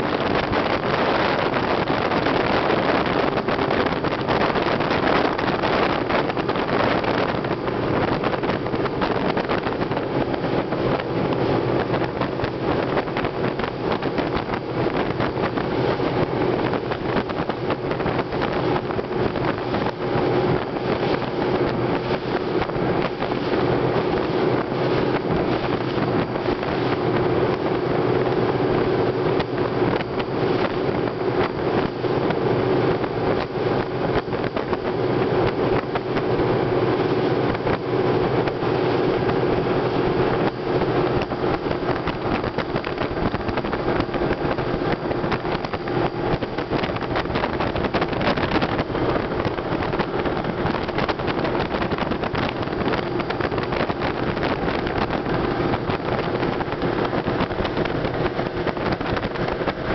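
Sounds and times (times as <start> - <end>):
boat engine running at speed: 0.0 - 59.9
wind rushing over microphone: 0.0 - 59.9.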